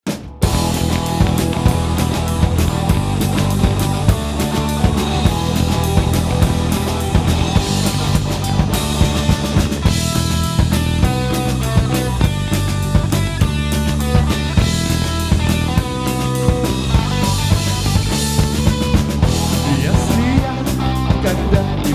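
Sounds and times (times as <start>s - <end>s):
rock band playing live: 0.0s - 21.9s.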